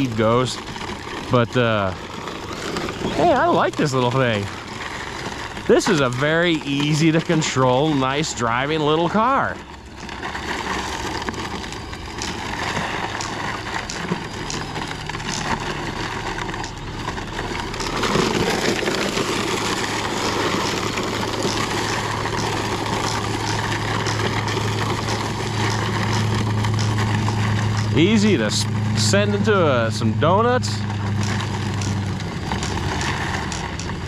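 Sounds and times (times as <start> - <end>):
rc car motor running: 0.0 - 34.0
tyres scrabbling on dirt: 0.0 - 34.0.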